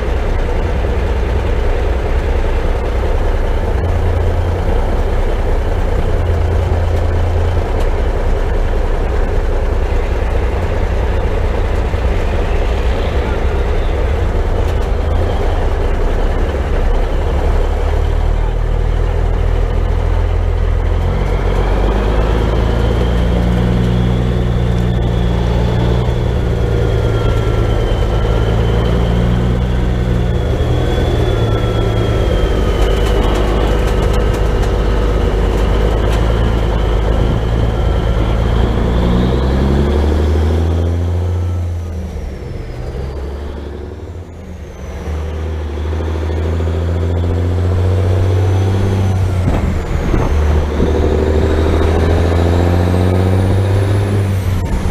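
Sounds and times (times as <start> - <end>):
truck diesel engine: 0.0 - 54.9.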